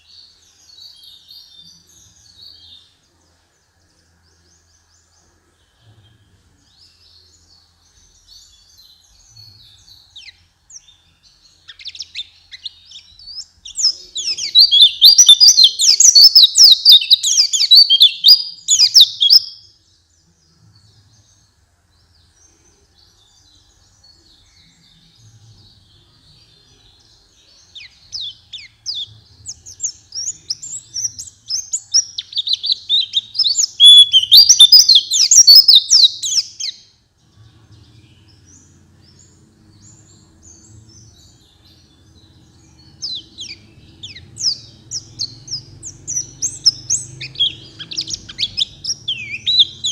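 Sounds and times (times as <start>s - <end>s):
bird twittering song: 0.0s - 49.9s
soft bird chirps: 0.0s - 49.9s.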